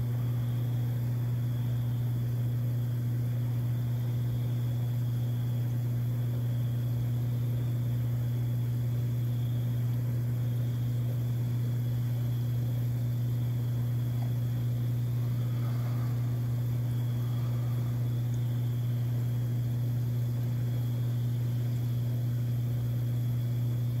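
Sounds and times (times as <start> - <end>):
constant hiss: 0.0 - 24.0
steady low hum: 0.0 - 24.0.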